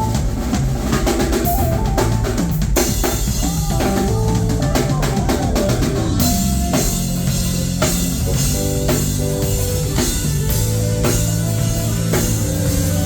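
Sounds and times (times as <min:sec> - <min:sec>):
drum beat with cymbal hits: 0:00.0 - 0:13.0
electric bass: 0:00.0 - 0:13.0
electric guitar: 0:01.2 - 0:13.0.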